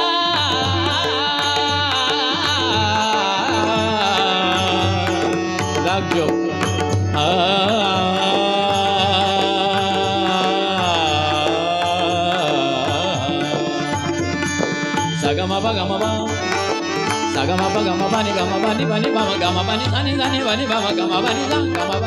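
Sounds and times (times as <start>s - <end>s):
instrumental accompaniment: 0.0s - 22.0s
person singing devotional melody: 0.0s - 22.0s
tabla drumming: 0.0s - 22.0s.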